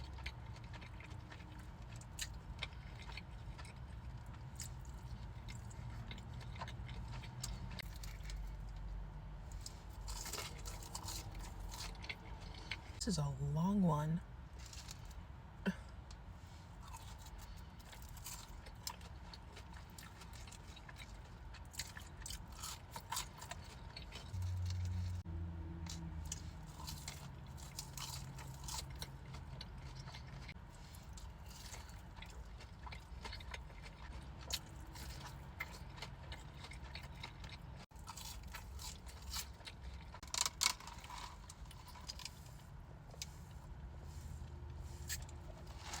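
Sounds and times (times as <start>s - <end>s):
crunching and chewing fried food: 0.0s - 13.0s, 14.3s - 46.0s.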